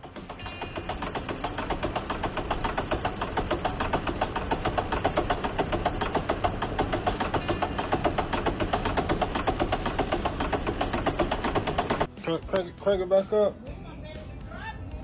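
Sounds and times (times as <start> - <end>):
car engine knocking: 0.0 - 12.1.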